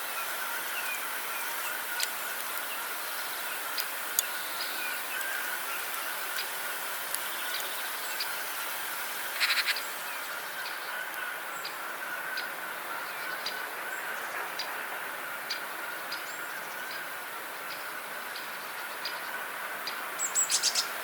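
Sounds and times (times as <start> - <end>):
steady hiss: 0.0 - 21.0
small birds chirping: 0.1 - 14.8, 15.4 - 21.0.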